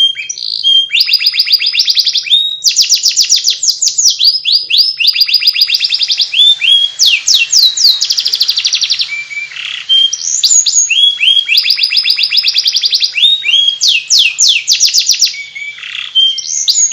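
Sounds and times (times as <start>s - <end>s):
canary singing in trills: 0.0s - 16.9s.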